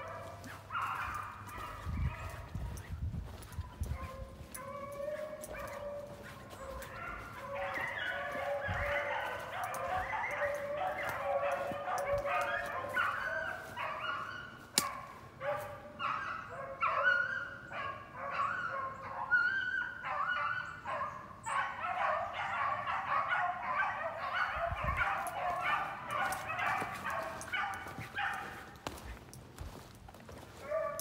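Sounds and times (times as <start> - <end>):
dogs baying: 0.0 - 31.0.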